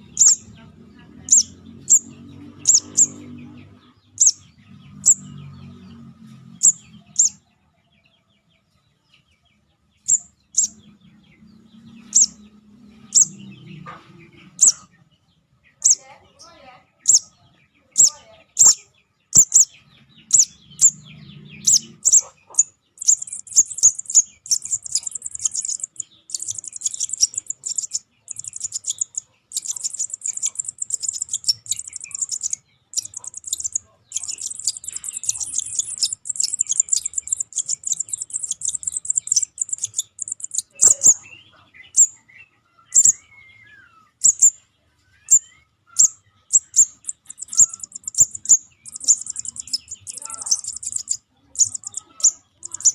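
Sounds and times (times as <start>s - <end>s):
young birds chirping: 0.0s - 52.9s.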